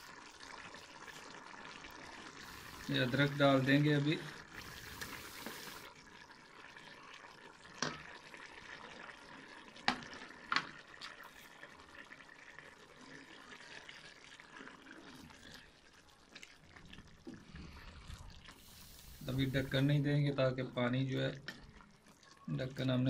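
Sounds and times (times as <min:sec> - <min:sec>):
pot simmering with bubbling hiss: 0:00.0 - 0:23.0.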